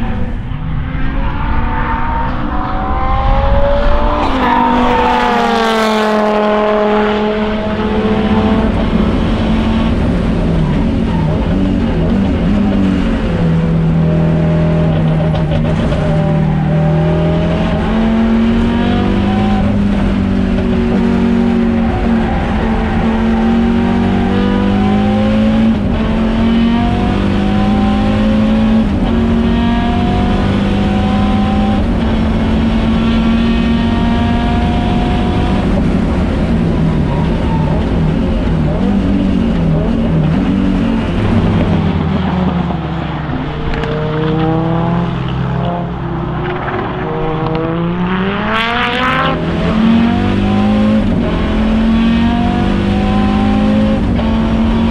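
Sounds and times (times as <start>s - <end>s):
rally car engine accelerating: 0.0s - 54.9s.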